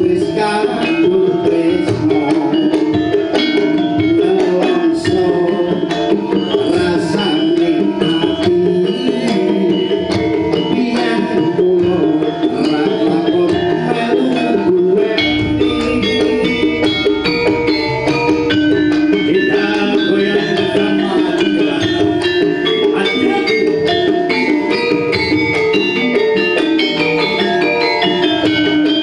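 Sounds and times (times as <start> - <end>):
busy drum pattern: 0.0 - 29.0
metallophone and gong notes: 0.0 - 29.0.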